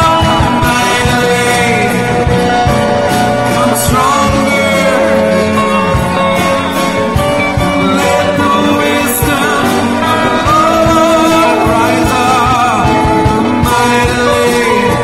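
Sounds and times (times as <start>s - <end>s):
church band worship music: 0.0s - 15.0s.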